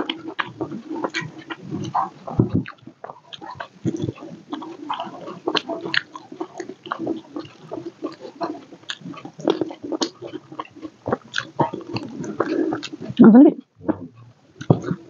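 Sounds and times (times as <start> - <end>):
person biting and chewing meat: 0.0 - 13.2.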